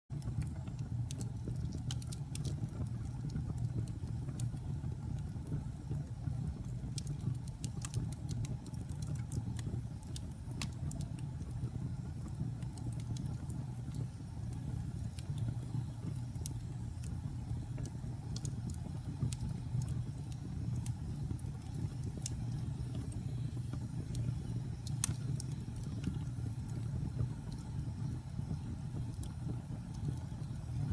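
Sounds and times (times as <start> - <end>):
fire crackles and pops: 0.1 - 30.9
fire roaring in fireplace: 0.1 - 30.9.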